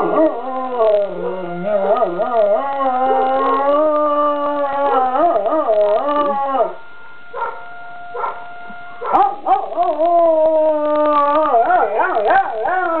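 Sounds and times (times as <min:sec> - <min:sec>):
puppy howling: 0:00.0 - 0:06.8, 0:09.0 - 0:13.0
siren: 0:00.0 - 0:13.0.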